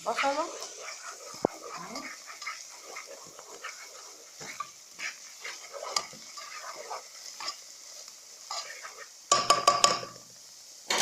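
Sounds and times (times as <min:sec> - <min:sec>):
spoon stirring and scraping: 0:00.0 - 0:10.2
onion frying in oil sizzling: 0:00.0 - 0:11.0.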